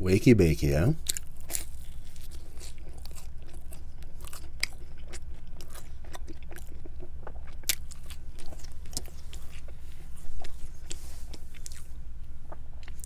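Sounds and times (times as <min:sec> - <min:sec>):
chewing crunchy crust: 0:01.0 - 0:13.0.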